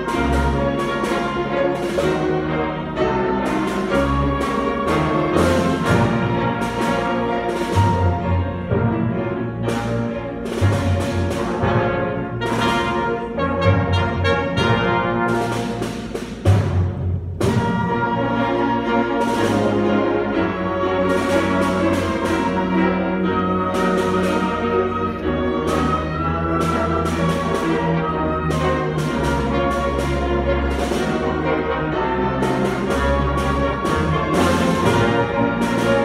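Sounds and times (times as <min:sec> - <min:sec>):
sustained orchestral notes: 0:00.0 - 0:36.0.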